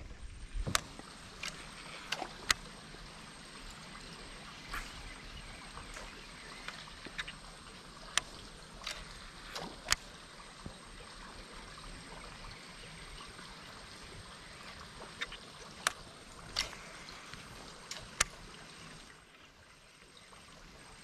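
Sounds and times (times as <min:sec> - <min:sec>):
water lapping against boat hull: 0:00.0 - 0:19.6.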